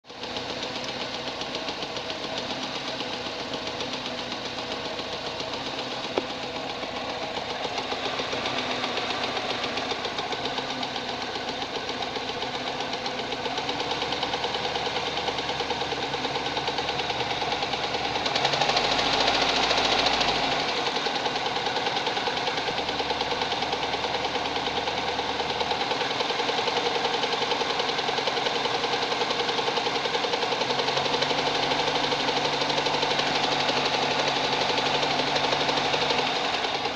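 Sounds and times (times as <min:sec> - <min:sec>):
car engine running: 0:00.0 - 0:36.9
fast steady piston knock: 0:00.2 - 0:36.9.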